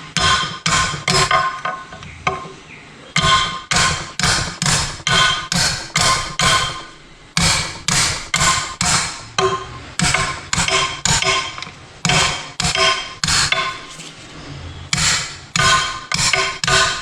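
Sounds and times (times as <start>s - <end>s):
hammer striking metal: 0.0s - 2.5s, 3.2s - 14.2s, 14.9s - 17.0s.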